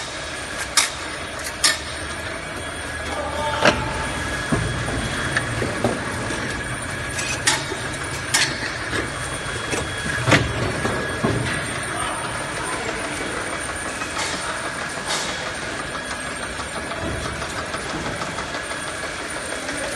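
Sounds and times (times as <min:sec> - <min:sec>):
machine humming: 0:00.0 - 0:19.9.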